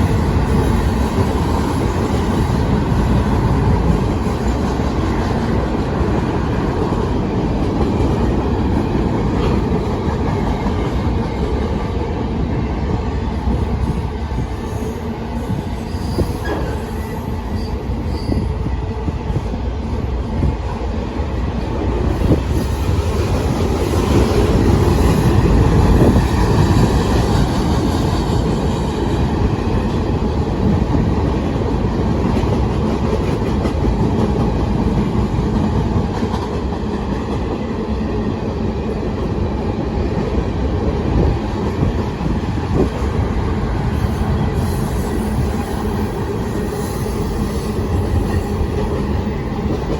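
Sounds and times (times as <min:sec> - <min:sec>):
steel wheels rumbling on rail: 0:00.0 - 0:49.9.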